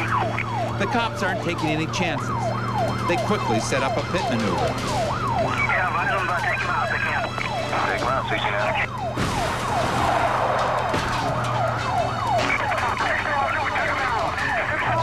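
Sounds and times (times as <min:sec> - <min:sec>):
police sirens yelping: 0:00.0 - 0:15.0.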